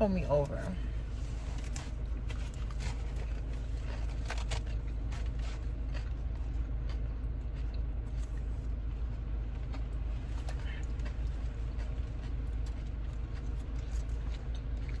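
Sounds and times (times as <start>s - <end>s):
low rumble inside a car: 0.0s - 15.0s
chewing: 0.8s - 15.0s.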